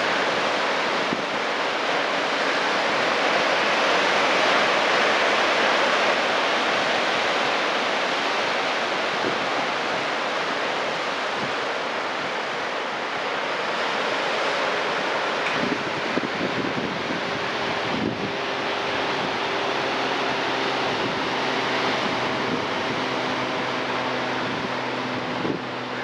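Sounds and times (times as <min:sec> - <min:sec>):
surf breaking over rocks: 0:00.0 - 0:26.0.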